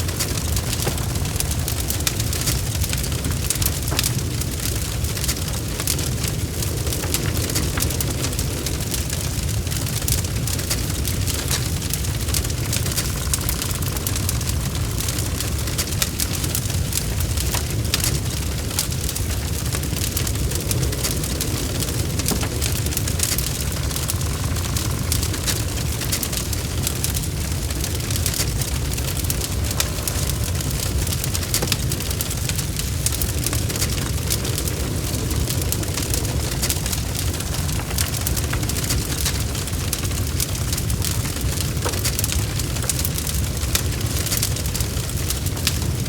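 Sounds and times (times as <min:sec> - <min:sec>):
fireplace fire crackling: 0:00.0 - 0:46.0
low rumble: 0:00.0 - 0:46.0.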